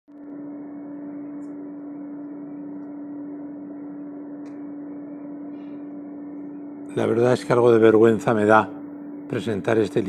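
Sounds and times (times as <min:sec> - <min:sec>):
steady mechanical hum: 0:00.1 - 0:10.0.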